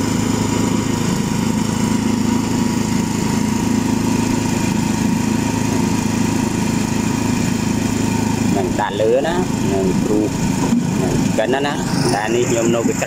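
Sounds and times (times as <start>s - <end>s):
small petrol engine humming: 0.0s - 13.0s.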